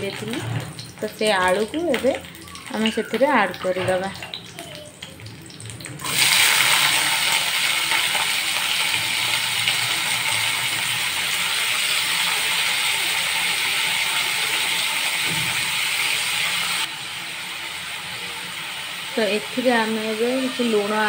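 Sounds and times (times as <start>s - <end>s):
potatoes sizzling in hot oil: 0.0s - 21.0s.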